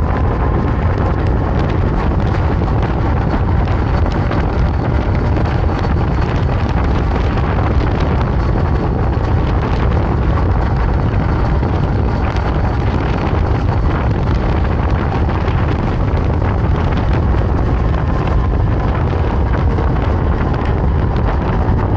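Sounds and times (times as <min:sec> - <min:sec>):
heavy wind rush on microphone: 0:00.0 - 0:21.9.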